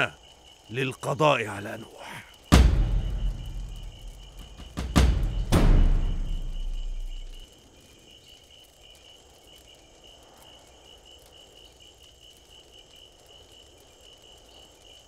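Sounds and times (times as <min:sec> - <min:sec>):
cricket chirping: 0:00.0 - 0:15.0
low hiss: 0:00.0 - 0:15.0.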